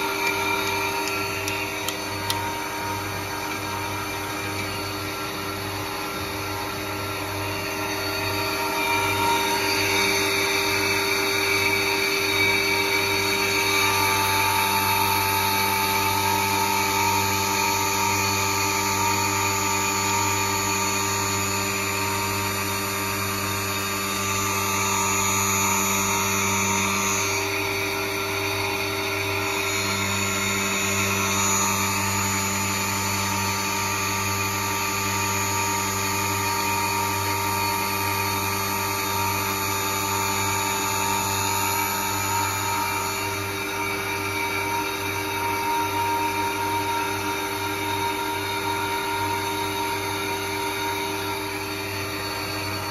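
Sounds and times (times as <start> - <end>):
grinding machine whine: 0.0 - 52.9.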